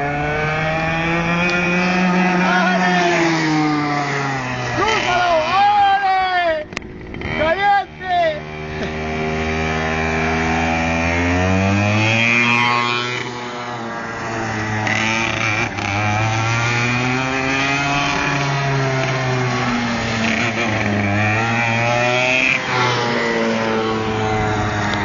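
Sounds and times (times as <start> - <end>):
go-kart engine revving: 0.0 - 25.0.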